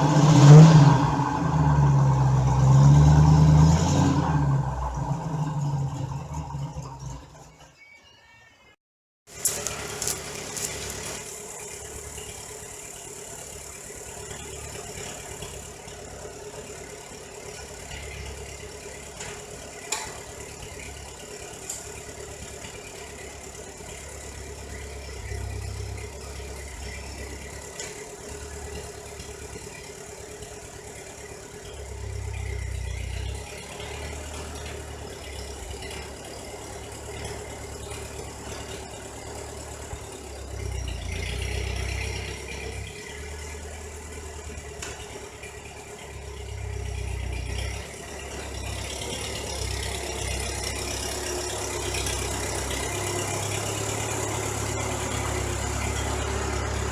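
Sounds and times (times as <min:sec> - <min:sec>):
engine idling with a rattle: 0:09.3 - 0:56.9.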